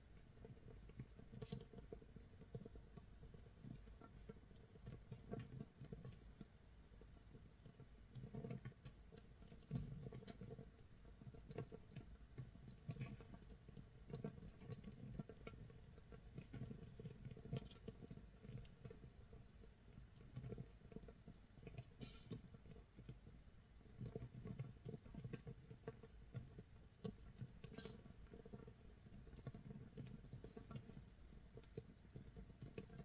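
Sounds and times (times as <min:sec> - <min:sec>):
fermentation bubbles popping: 0:00.2 - 0:33.0.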